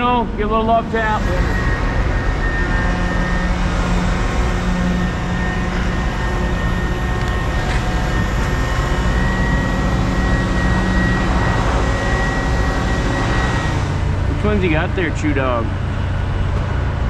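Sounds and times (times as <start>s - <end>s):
diesel engine droning: 0.0s - 17.0s
high engine whine: 0.0s - 17.0s.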